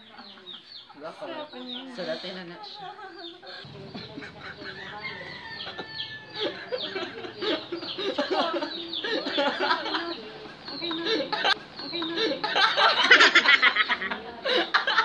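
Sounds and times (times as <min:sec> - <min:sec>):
chickens clucking and cheeping: 0:00.0 - 0:14.7.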